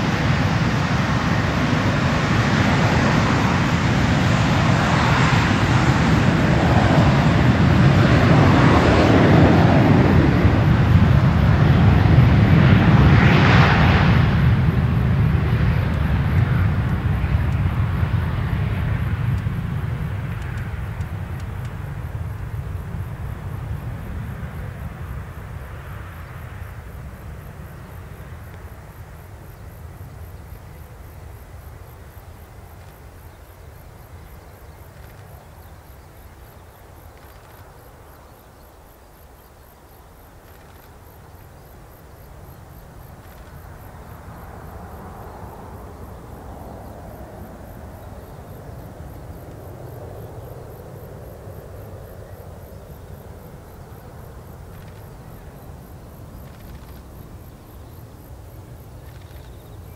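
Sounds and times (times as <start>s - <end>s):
crickets chirping: 0.0s - 59.9s
jet engines rumbling: 0.0s - 59.9s.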